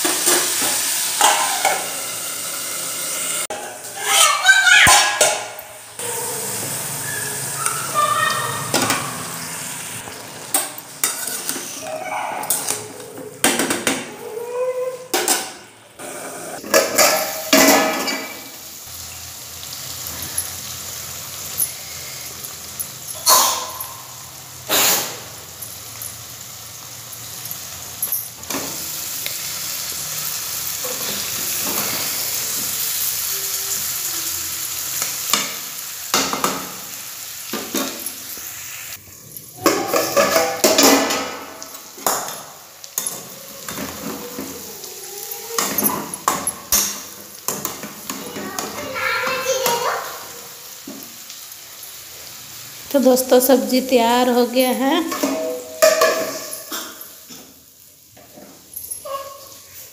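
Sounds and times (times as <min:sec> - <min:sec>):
vegetables sizzling in pan: 0:00.0 - 0:13.6, 0:15.1 - 0:59.9.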